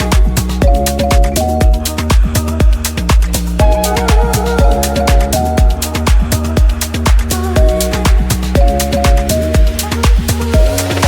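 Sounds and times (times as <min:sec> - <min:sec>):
bass line: 0:00.0 - 0:11.0
kick drum: 0:00.0 - 0:11.0.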